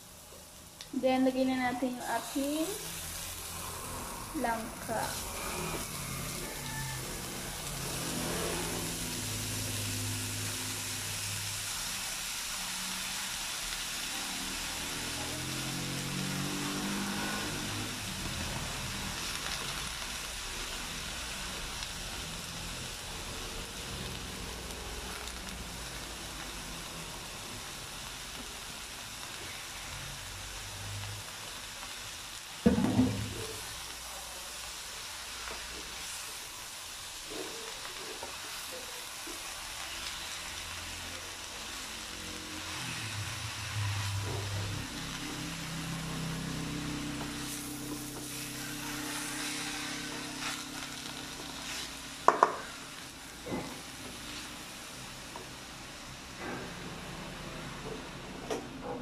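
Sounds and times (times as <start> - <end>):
jackfruit sizzling in a frying pan: 0.0 - 59.0.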